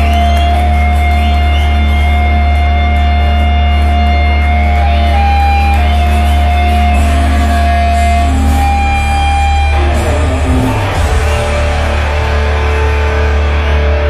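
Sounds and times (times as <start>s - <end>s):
loud live band music: 0.0s - 14.0s.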